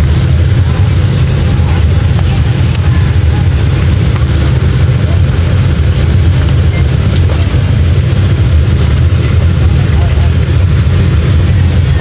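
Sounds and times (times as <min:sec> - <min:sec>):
jet engine cabin rumble: 0:00.0 - 0:12.0.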